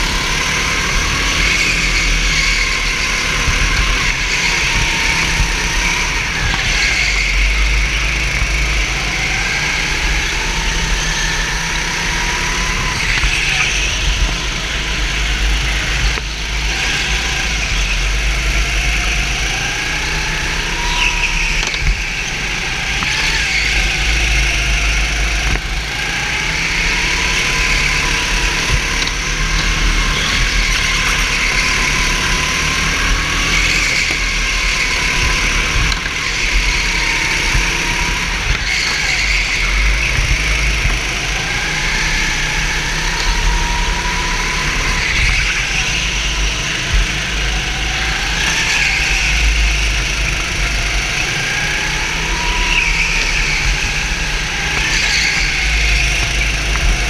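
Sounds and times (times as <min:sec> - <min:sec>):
heavy low rumble: 0:00.0 - 0:57.0
kart engine revving: 0:00.0 - 0:57.0.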